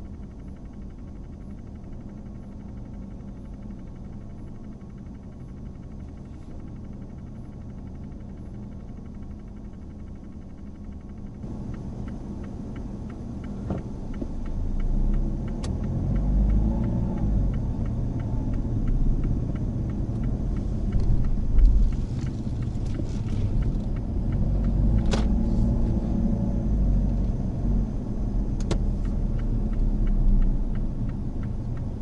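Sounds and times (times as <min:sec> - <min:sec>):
car engine and road noise: 0:00.0 - 0:32.0
regular light ticking: 0:00.0 - 0:32.0.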